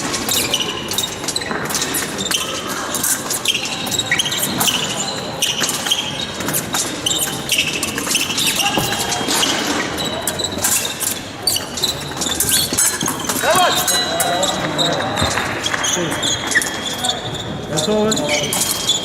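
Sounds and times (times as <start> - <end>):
footwork stamps and shuffles: 0.0 - 19.0
shoe squeaks: 0.0 - 19.0.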